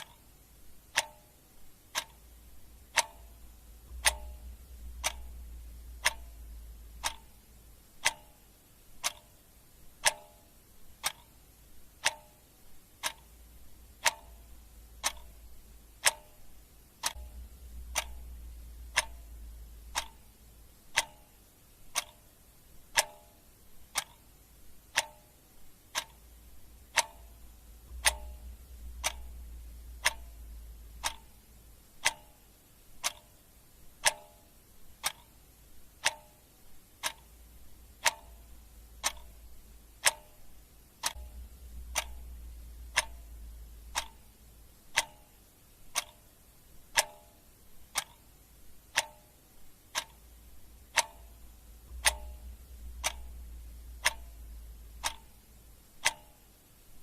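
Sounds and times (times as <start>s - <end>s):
clock ticking: 0.0s - 57.0s
faint low hum: 0.0s - 57.0s.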